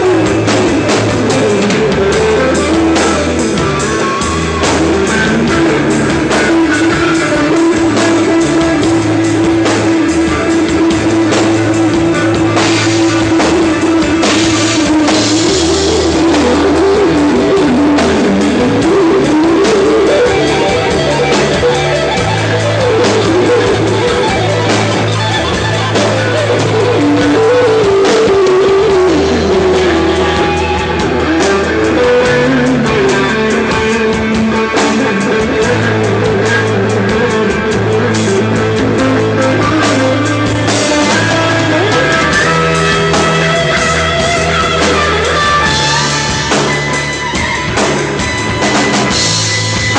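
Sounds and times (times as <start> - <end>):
bass notes: 0.0 - 49.9
drums: 0.0 - 49.9
guitar melody: 0.0 - 49.9
rock band playing: 0.0 - 49.9.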